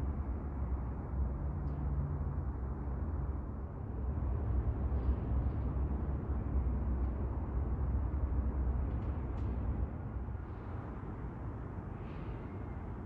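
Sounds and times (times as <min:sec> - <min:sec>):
low rumble background noise: 0:00.0 - 0:13.0.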